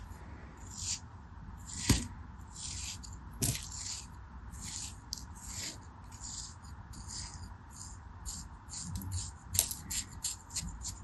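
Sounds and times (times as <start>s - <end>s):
blade scraping through sand: 1.6s - 11.0s.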